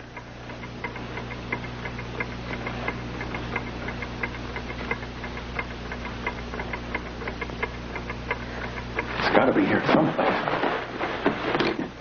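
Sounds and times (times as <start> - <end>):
clock ticking: 0.0 - 10.0
low steady hum: 0.0 - 12.0.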